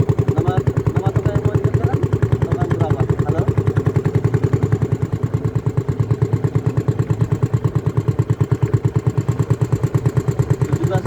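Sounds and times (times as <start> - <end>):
engine idling with low thumping: 0.0 - 11.0.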